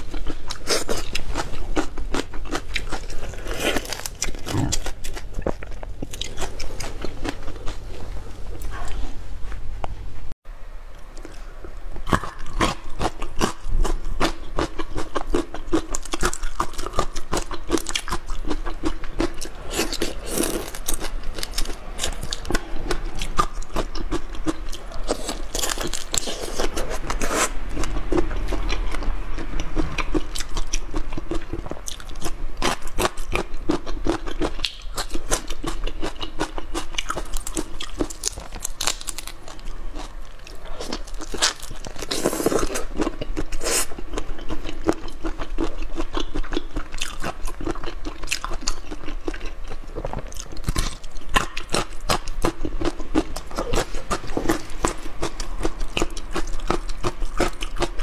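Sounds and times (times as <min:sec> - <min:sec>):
crunching and wet chewing: 0:00.0 - 0:08.7, 0:12.0 - 0:58.0.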